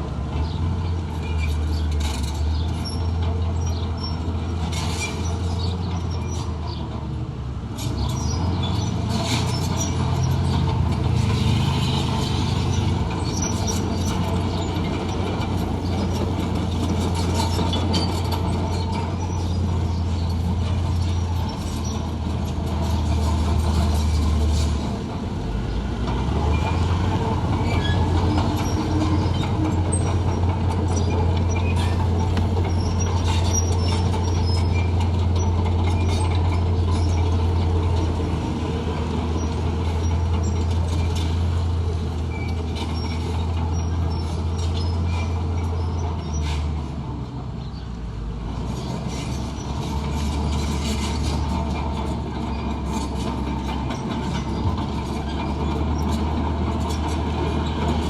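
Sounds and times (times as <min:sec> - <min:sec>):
diesel engine droning: 0:00.0 - 0:58.0
clanks and rattles: 0:07.7 - 0:25.3, 0:26.0 - 0:46.9, 0:48.5 - 0:58.0.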